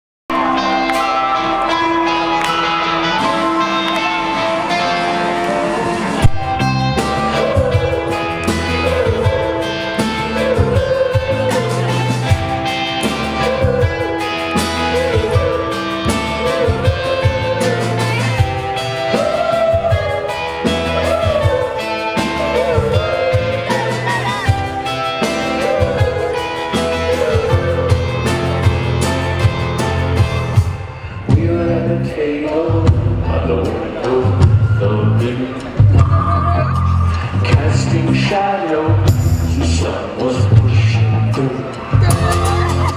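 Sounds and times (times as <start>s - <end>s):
bass guitar: 0.3s - 42.9s
drums: 0.3s - 42.9s
electric guitar chords: 0.3s - 42.9s
man singing: 0.4s - 29.4s, 31.1s - 42.9s.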